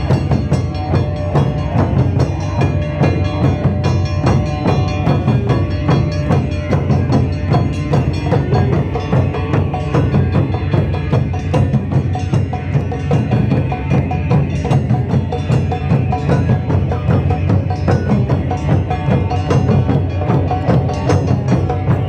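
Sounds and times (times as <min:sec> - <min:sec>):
plucked shamisen notes: 0:00.0 - 0:22.0
taiko drums: 0:00.0 - 0:22.0.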